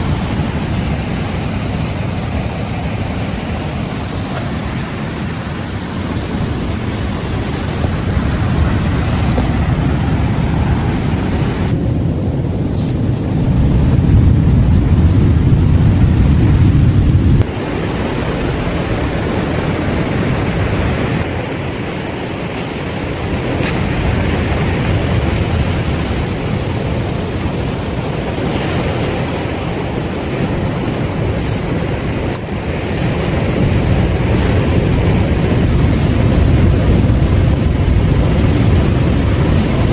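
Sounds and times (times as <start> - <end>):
ocean surf washing in: 0.0 - 39.9
wind buffeting microphone: 0.0 - 39.9.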